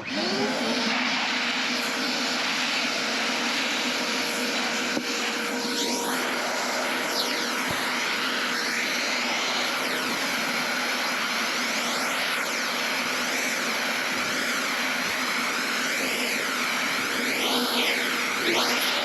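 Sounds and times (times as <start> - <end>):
electric power tool motor humming: 0.0 - 19.0.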